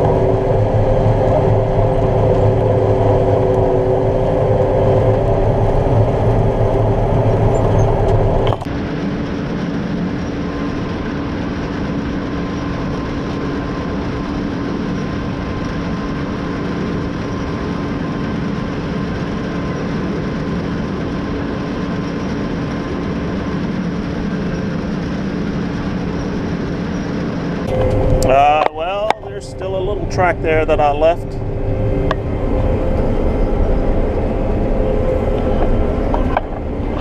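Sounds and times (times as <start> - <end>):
combine harvester engine and threshing: 0.0 - 37.0
machinery whine: 0.0 - 37.0.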